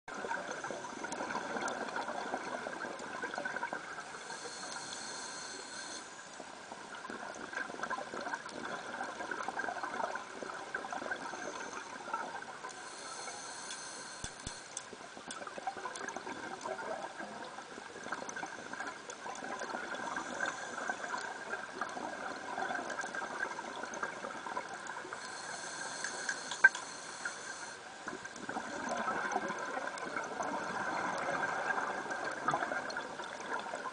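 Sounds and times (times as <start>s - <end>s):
underwater crackling hiss: 0.1s - 33.9s.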